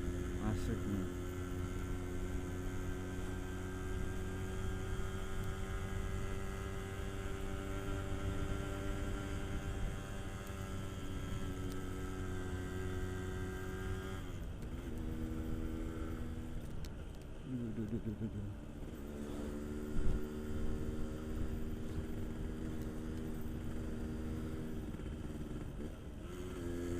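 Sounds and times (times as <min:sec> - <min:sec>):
motorcycle engine cruising: 0:00.0 - 0:26.9.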